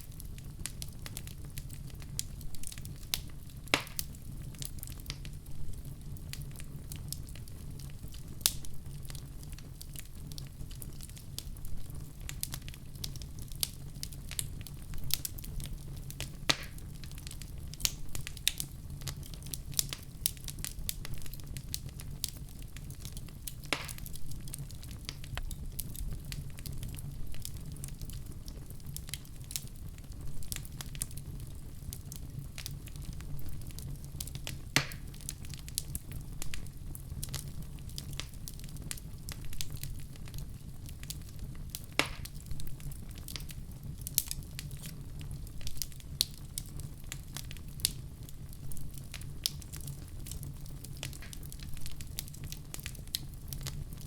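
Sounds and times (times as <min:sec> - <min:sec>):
fire burning with crackles: 0:00.0 - 0:54.0
fire pops: 0:00.0 - 0:54.0.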